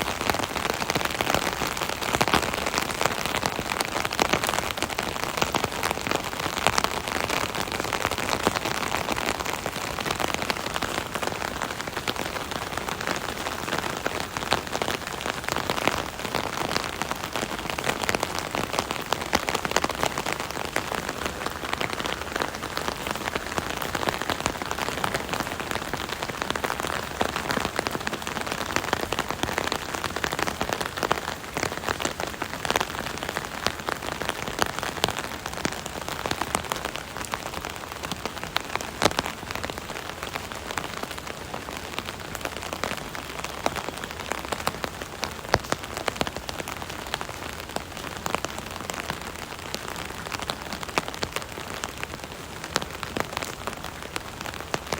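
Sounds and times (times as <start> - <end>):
rain pattering on an umbrella: 0.0 - 54.9.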